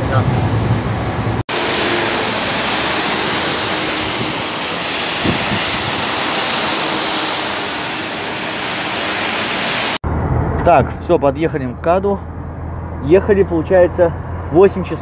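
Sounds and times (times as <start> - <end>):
traffic on wet highway: 0.0 - 11.2, 12.2 - 15.0.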